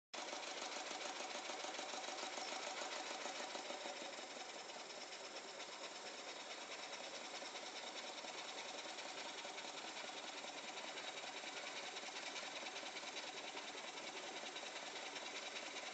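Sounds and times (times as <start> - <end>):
small engine rattling: 0.2 - 15.9.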